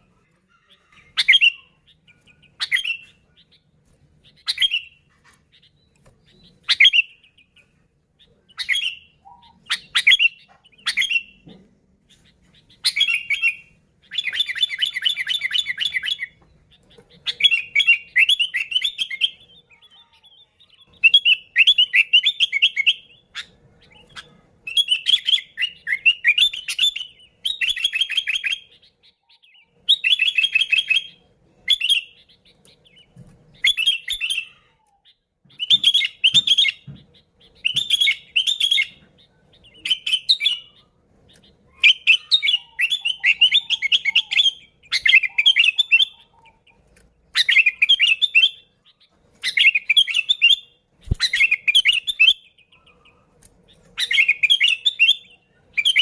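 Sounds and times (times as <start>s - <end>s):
bird singing warbling phrases: 0.0s - 56.0s.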